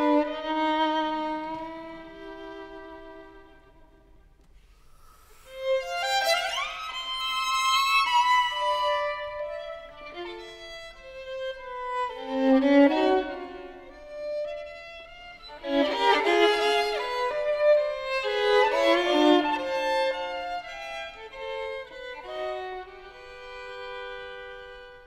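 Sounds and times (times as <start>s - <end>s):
solo violin playing: 0.0s - 25.0s.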